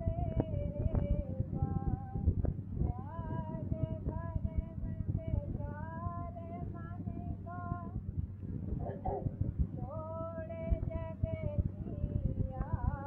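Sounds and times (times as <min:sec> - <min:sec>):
woman singing a hymn: 0:00.0 - 0:08.0, 0:09.8 - 0:13.0
low hum and crackle: 0:00.0 - 0:13.0.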